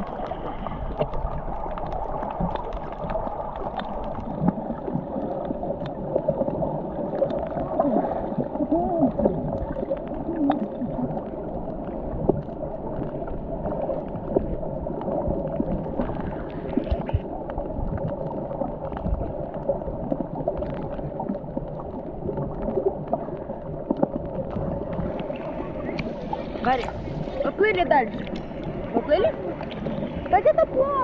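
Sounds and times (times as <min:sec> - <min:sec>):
crackles and clicks: 0:00.0 - 0:31.0
muffled underwater water rush: 0:00.0 - 0:31.0.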